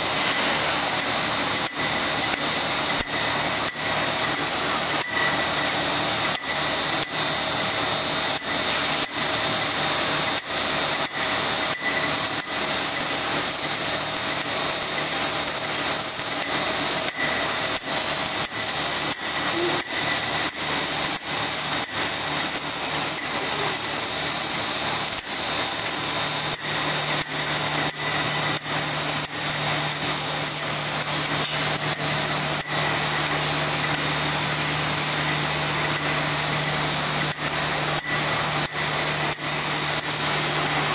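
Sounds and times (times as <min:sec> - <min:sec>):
extruder machine whine: 0:00.0 - 0:40.9.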